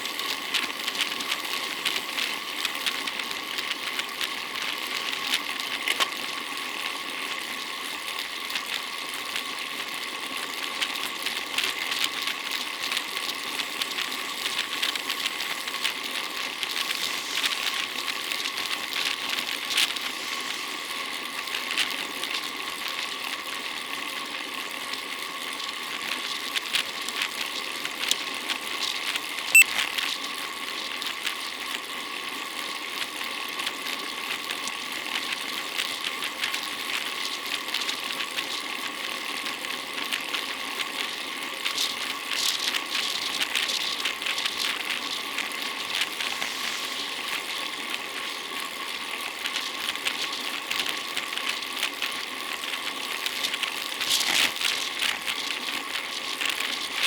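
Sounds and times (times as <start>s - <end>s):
bicycle drivetrain whirring: 0.0s - 57.0s.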